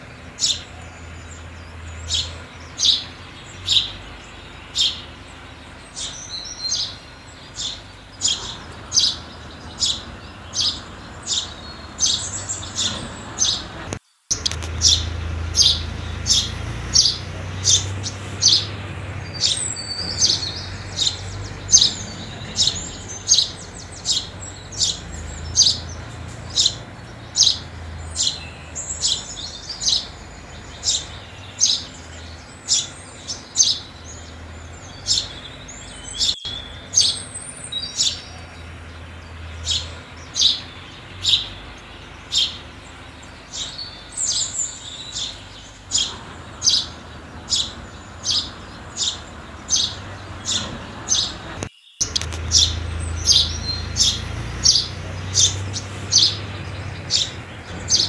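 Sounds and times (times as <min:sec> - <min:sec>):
sparrows chirping: 0:00.0 - 0:58.0.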